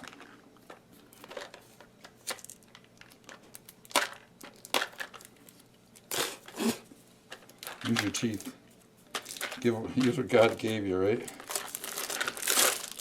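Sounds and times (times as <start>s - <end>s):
plastic packaging crinkling: 1.0s - 6.6s, 7.3s - 13.0s.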